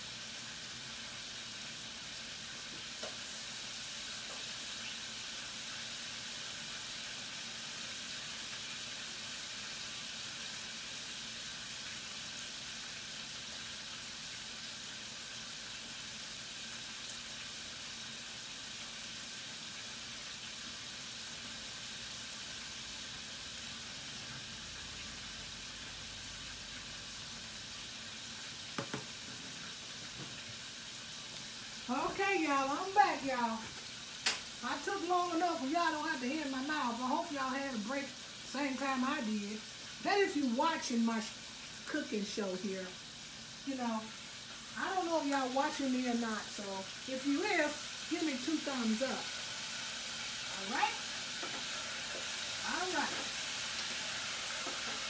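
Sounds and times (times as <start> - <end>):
oil sizzling in deep fryer: 0.0 - 55.0.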